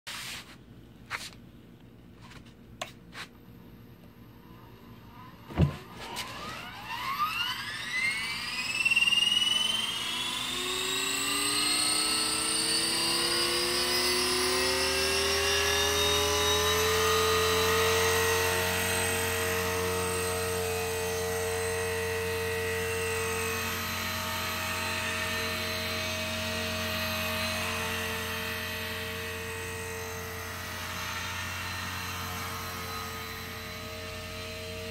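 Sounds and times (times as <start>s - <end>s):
rc helicopter motor whine: 4.5s - 34.9s.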